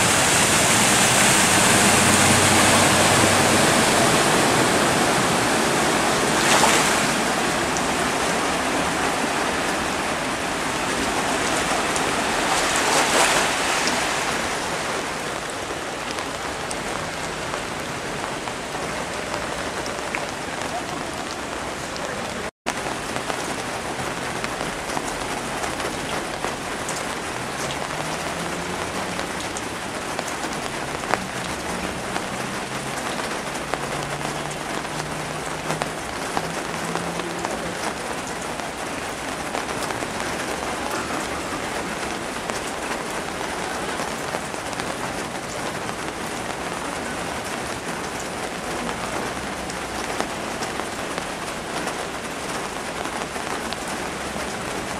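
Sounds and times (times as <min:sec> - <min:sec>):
heavy rain on flooded street: 0:00.0 - 0:54.9.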